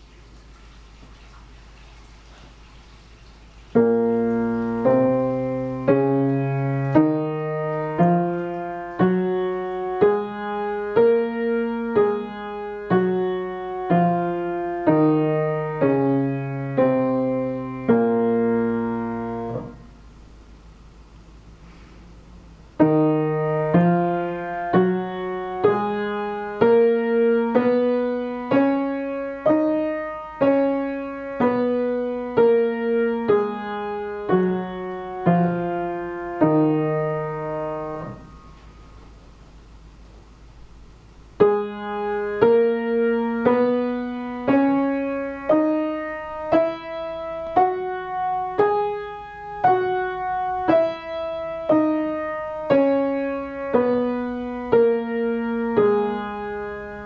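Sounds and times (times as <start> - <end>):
piano playing scales: 2.5 - 20.0, 22.6 - 39.2, 41.2 - 57.0.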